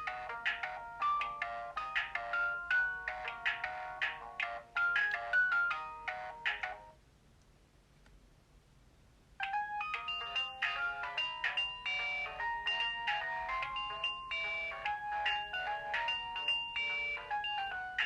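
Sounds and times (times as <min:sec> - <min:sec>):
electronic ringtone melody: 0:00.0 - 0:07.0, 0:09.4 - 0:18.0.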